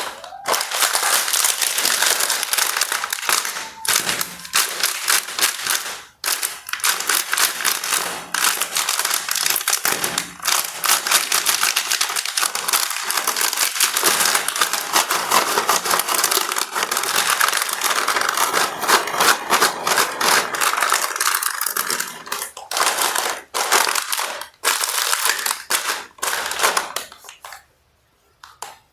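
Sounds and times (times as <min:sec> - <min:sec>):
plastic wrappers crinkling: 0:00.0 - 0:27.7.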